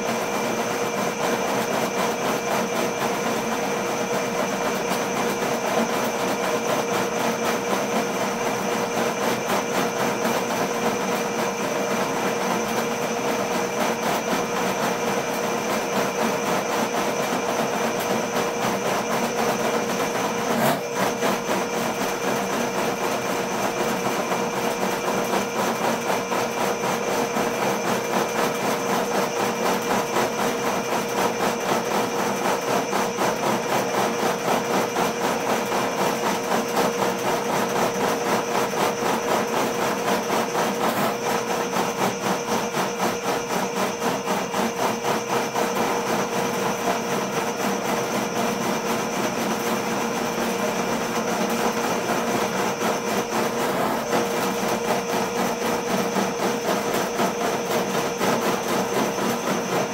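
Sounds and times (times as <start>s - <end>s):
drain machine motor running: 0.0s - 59.9s.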